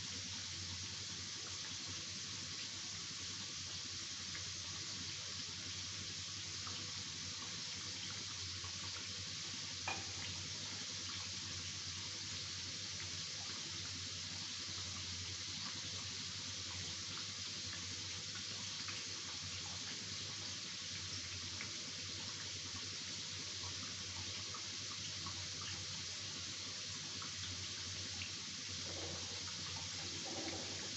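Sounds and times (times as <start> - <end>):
food deep-frying in hot oil: 0.0 - 30.9.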